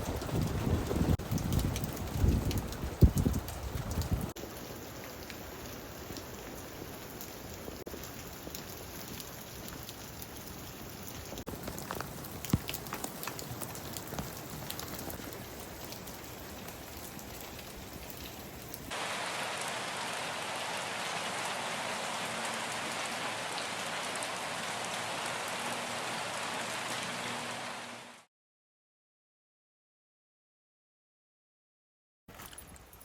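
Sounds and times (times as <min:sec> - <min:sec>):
rain falling: 0:00.0 - 0:28.3.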